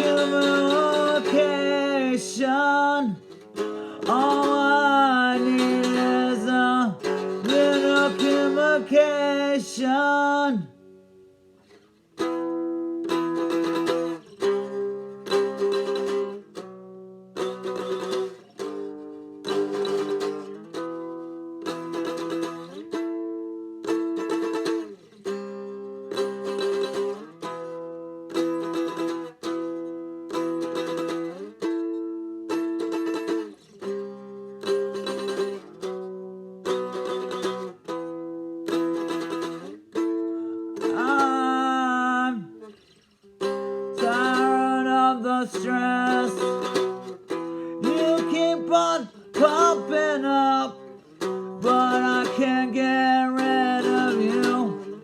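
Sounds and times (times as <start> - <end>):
acoustic strummed chords: 0.0 - 55.0.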